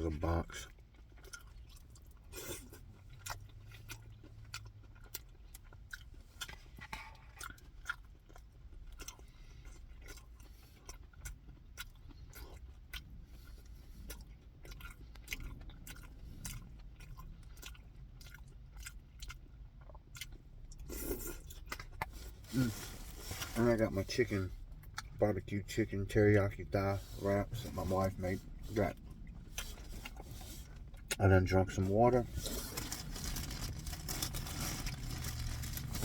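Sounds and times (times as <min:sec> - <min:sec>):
person chewing food: 0:00.2 - 0:36.0.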